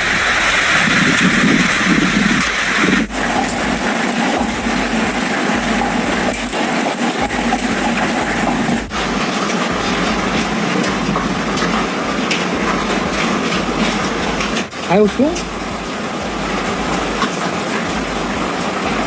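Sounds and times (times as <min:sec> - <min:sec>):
hail and heavy rain clattering: 0:00.0 - 0:19.0.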